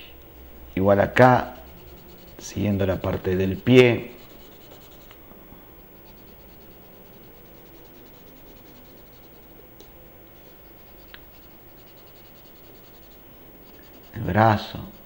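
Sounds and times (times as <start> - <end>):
pencil scratching on paper: 0.3 - 5.2, 6.0 - 9.5, 10.4 - 15.0.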